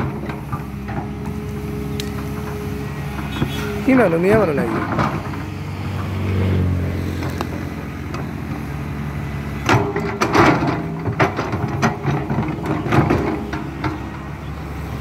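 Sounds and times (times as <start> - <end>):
excavator bucket clanks and knocks: 0.0 - 6.2, 7.2 - 14.6
excavator diesel engine running: 0.0 - 15.0.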